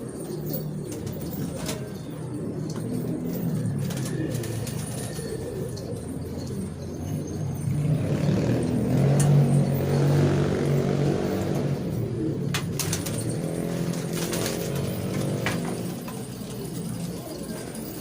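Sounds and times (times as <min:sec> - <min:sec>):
pigeons cooing: 0:00.0 - 0:18.0
vehicle engine passing: 0:03.3 - 0:18.0.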